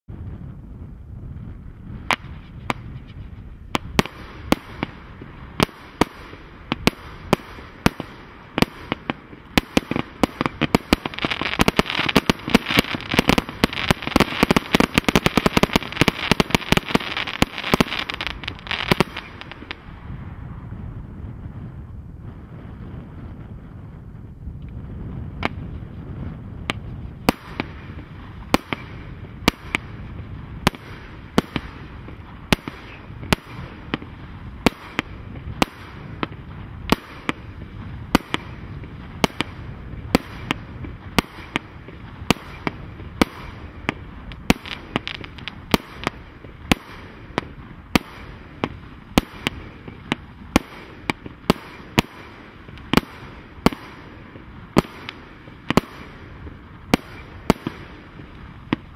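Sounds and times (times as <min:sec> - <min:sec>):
steady background hiss: 0:00.5 - 0:20.8, 0:25.5 - 0:58.9
firework barrage bangs: 0:01.5 - 0:20.7, 0:24.9 - 0:58.9.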